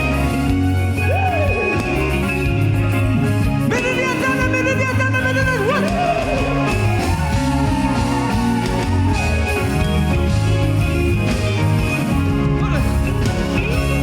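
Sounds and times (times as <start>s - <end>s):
gospel music with guitar: 0.0s - 14.0s
steady bass: 0.0s - 14.0s.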